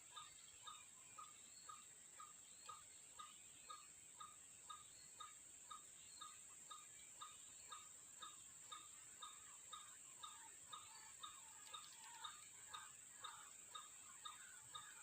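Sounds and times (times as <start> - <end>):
faint waterhen calls: 0.1 - 15.0.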